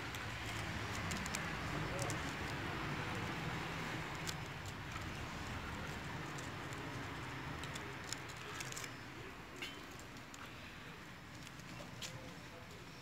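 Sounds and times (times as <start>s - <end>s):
kittens scratching on dirt: 0.0s - 12.9s.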